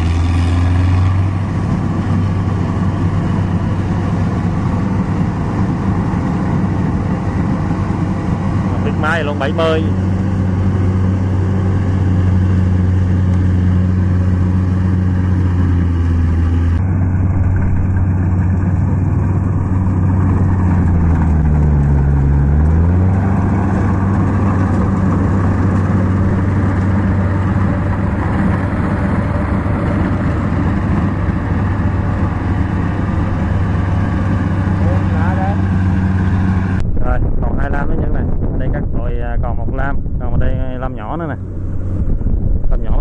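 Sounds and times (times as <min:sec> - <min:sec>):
combine harvester diesel engine: 0:00.0 - 0:43.0.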